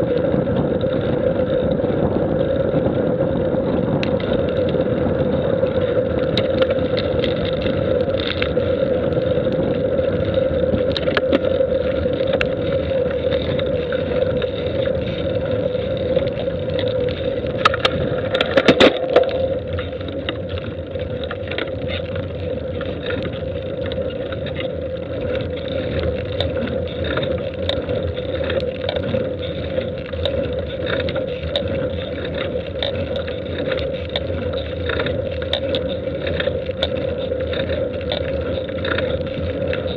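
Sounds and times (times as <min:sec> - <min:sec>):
constant tone: 0:00.0 - 0:39.9
moving vehicle hum and rumble: 0:00.0 - 0:39.9.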